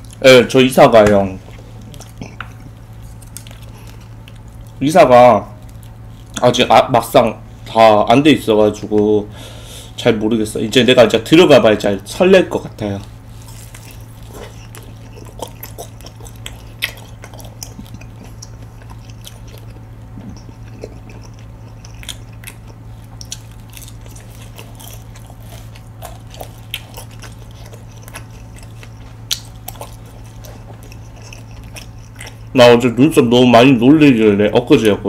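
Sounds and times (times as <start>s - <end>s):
person chewing crunchy food: 0.0s - 7.8s, 12.5s - 33.1s
steady low hum: 0.0s - 35.0s.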